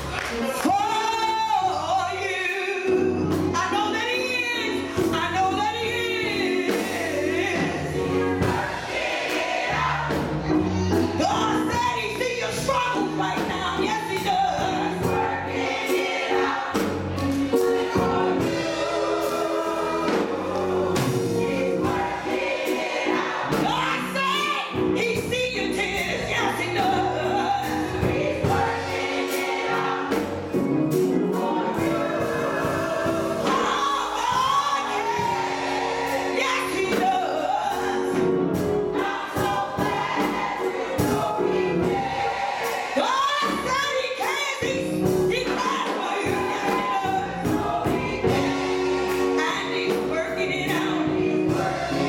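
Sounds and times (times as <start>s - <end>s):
gospel choir singing: 0.0s - 52.0s.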